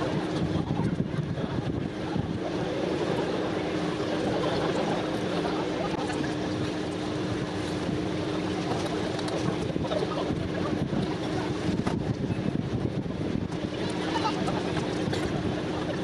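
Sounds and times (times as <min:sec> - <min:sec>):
constant hum: 0:00.0 - 0:16.0
low mechanical rumble: 0:00.0 - 0:16.0
wind buffeting microphone: 0:00.0 - 0:16.0.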